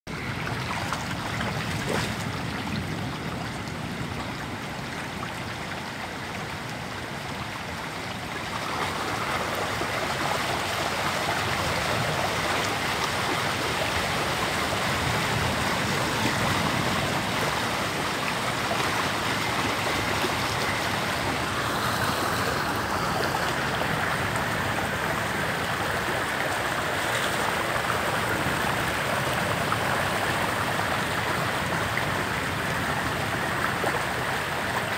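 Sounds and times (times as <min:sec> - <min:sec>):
rushing floodwater: 0:00.1 - 0:34.9.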